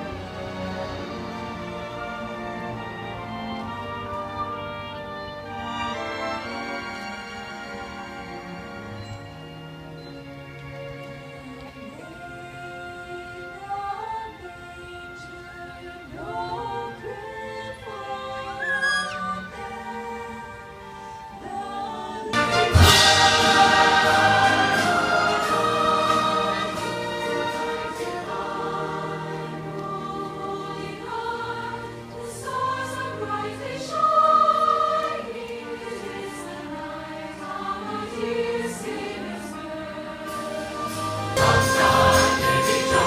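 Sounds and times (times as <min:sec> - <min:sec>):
choir singing a carol: 0:00.0 - 0:10.5, 0:11.2 - 0:43.0
orchestra playing: 0:00.0 - 0:13.6, 0:18.2 - 0:43.0.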